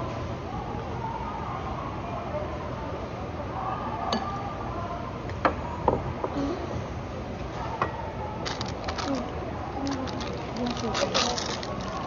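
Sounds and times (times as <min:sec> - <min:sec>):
faint voices: 0:00.0 - 0:12.0
murmur of dining hall: 0:00.0 - 0:12.0.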